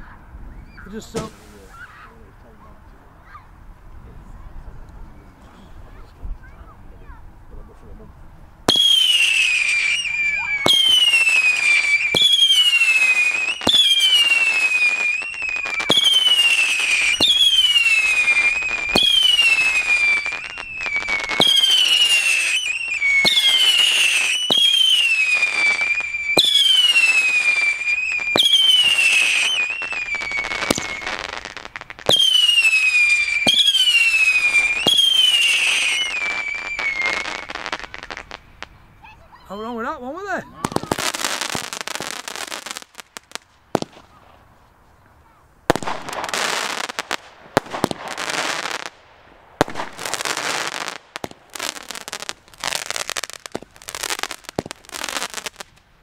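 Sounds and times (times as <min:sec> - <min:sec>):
whistling fireworks: 0:00.0 - 0:02.2, 0:08.6 - 0:55.8.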